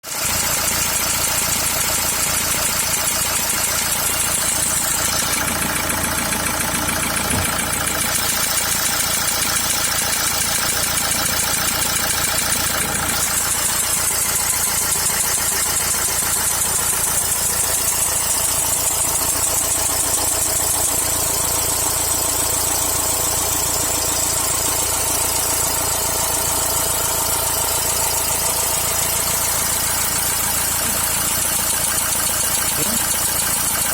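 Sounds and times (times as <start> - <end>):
diesel engine idling: 0.1 - 33.9
rapid engine knock: 0.1 - 33.9.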